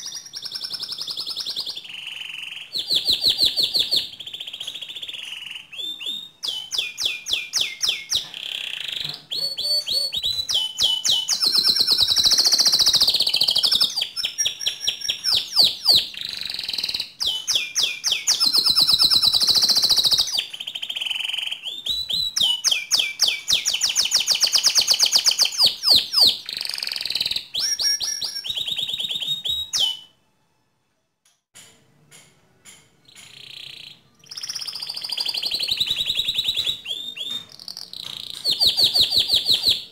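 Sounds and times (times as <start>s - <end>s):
canary singing trills: 0.0s - 30.2s, 33.0s - 39.9s.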